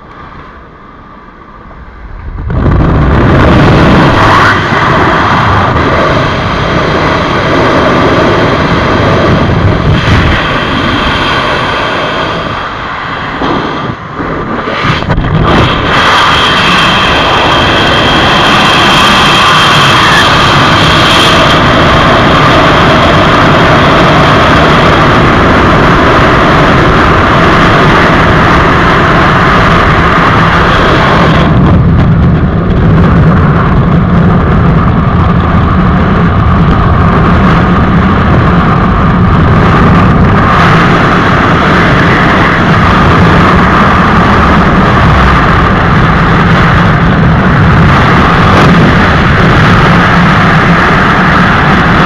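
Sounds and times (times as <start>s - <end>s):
freefall wind rushing over microphone: 0.0s - 52.0s.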